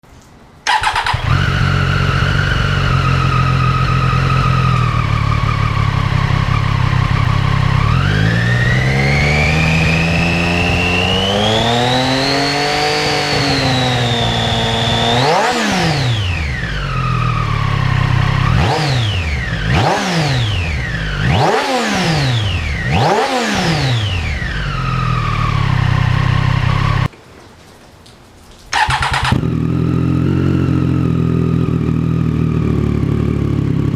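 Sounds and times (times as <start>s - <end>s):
motorcycle engine idling and revving: 0.7s - 27.1s, 28.8s - 33.9s.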